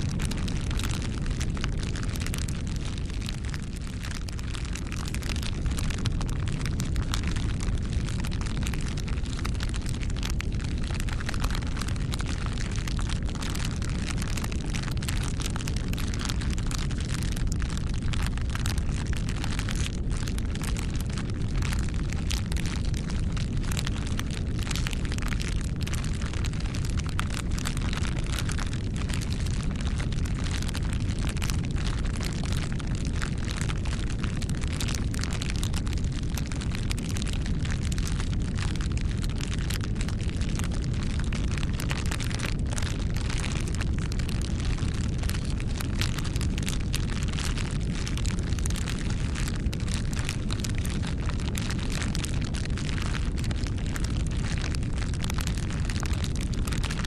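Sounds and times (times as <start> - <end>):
campfire crackling: 0.0 - 56.8.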